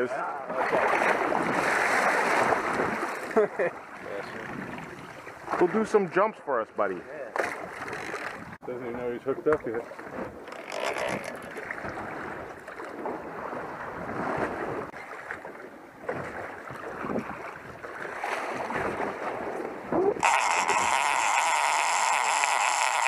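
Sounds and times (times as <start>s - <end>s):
wind: 0.0s - 23.0s
water sloshing against boat hull: 0.4s - 6.2s, 6.8s - 8.6s, 9.2s - 23.0s.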